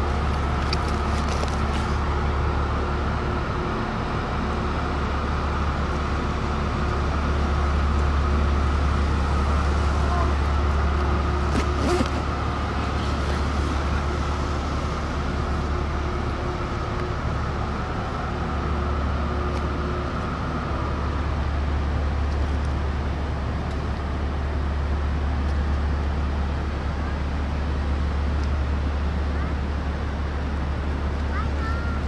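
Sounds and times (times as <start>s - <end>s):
ship engines droning: 0.0s - 32.0s.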